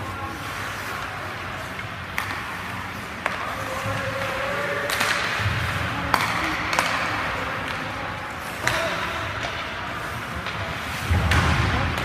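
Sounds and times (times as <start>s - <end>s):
skates scraping on ice: 0.0s - 12.0s
hockey stick hitting puck: 0.4s - 12.0s.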